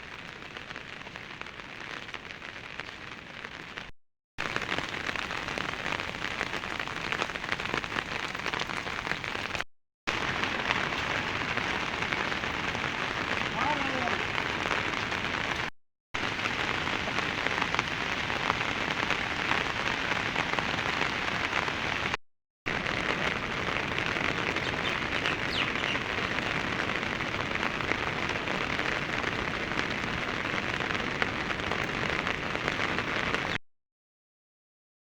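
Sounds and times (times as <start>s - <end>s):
steady rain falling: 0.0s - 33.6s.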